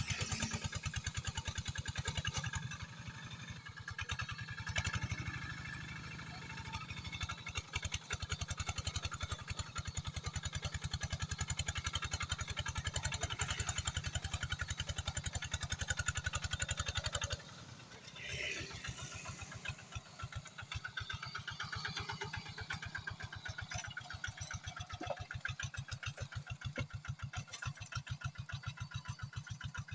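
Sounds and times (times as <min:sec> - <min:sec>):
tractor engine chugging: 0:00.0 - 0:29.9.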